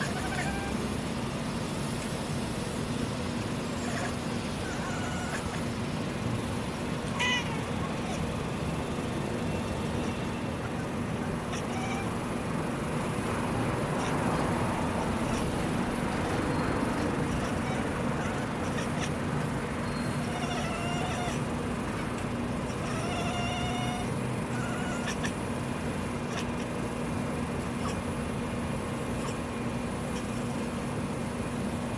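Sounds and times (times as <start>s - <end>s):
cat chirping: 0.0s - 0.9s, 3.8s - 6.0s, 7.0s - 30.7s.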